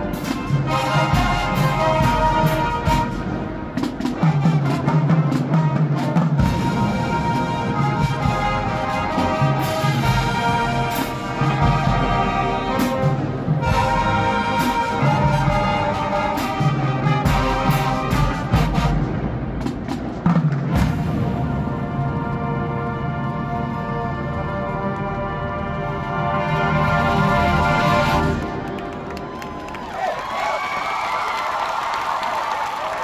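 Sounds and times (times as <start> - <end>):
brass chords: 0.0 - 29.4
marching band playing: 0.0 - 33.0.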